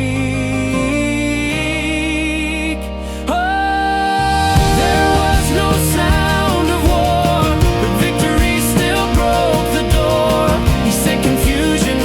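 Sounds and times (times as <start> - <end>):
bass: 0.0 - 12.0
plucked notes: 0.0 - 12.0
sustained backing music: 0.0 - 12.0.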